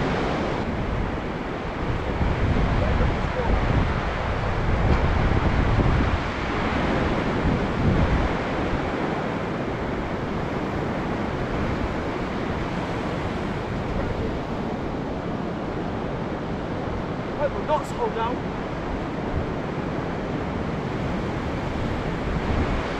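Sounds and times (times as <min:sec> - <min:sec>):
surf washing onto beach: 0:00.0 - 0:22.9
wind buffeting microphone: 0:00.0 - 0:22.9.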